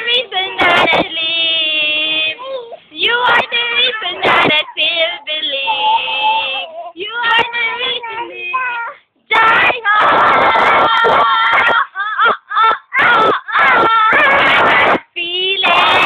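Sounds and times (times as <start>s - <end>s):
high-pitched voice singing: 0.0s - 16.0s.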